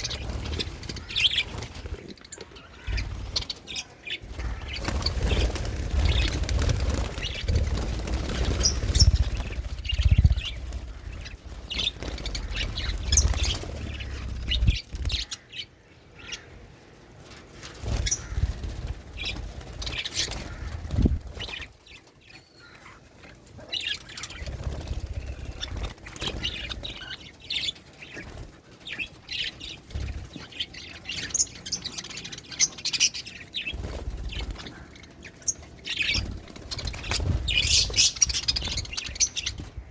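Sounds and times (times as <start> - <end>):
budgerigars chirping: 0.0 - 16.5, 17.9 - 18.5, 19.2 - 21.7, 23.7 - 28.3, 28.9 - 39.8.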